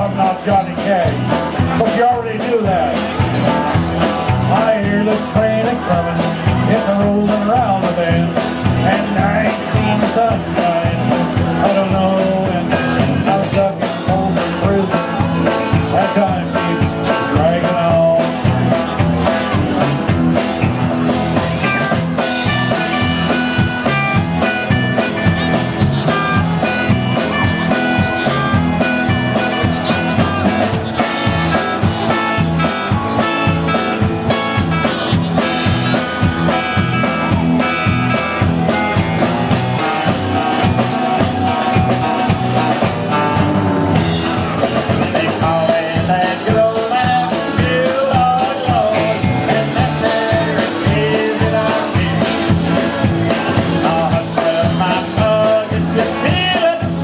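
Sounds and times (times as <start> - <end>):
bass guitar: 0.0 - 57.0
steady drum beat: 0.0 - 57.0.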